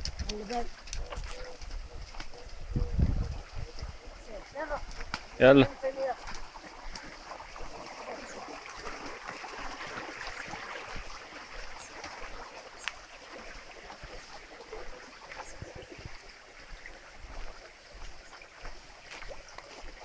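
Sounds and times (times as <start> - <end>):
light ticks and rustles: 0.0 - 7.7, 10.9 - 20.0
water rushing in channel: 0.0 - 20.0.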